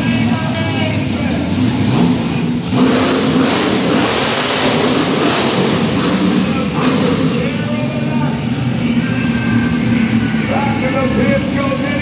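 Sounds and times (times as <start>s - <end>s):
loud truck engine running: 0.0s - 12.0s.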